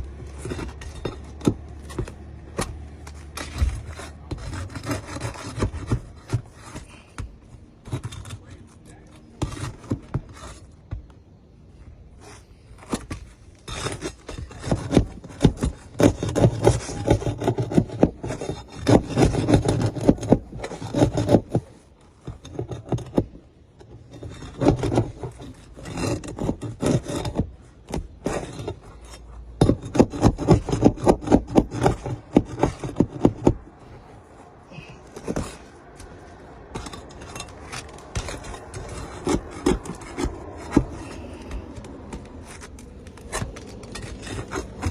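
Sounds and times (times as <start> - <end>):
hand tool scraping roof shingles: 0.0 - 44.9.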